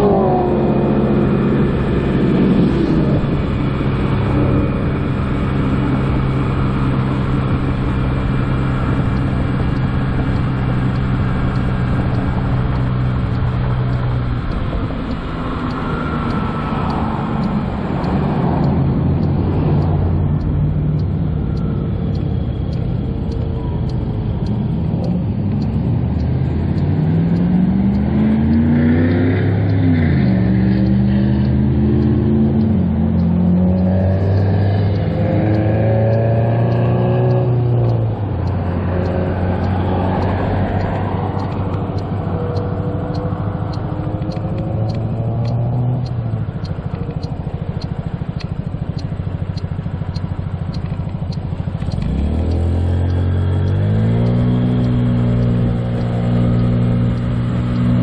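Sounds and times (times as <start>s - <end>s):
scooter engine accelerating: 0.0s - 58.0s.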